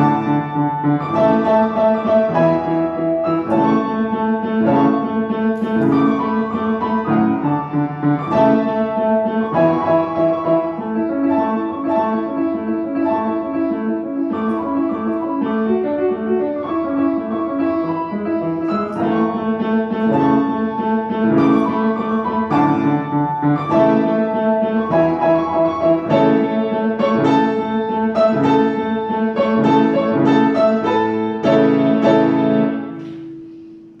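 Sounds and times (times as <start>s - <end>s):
solo classical piano: 0.0s - 34.0s.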